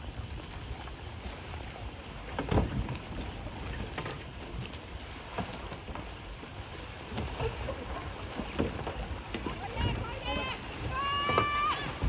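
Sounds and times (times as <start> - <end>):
kayaks and paddles splashing: 0.0 - 12.0
steady water hiss: 0.0 - 12.0.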